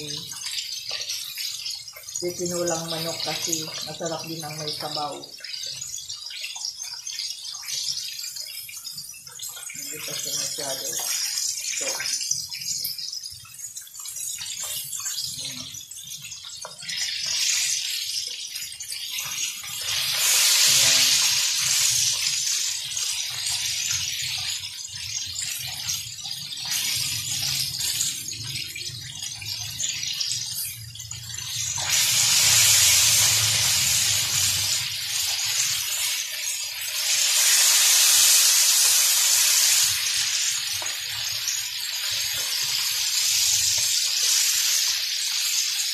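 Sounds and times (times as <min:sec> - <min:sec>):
chicken deep-frying in oil: 0:00.0 - 0:45.9.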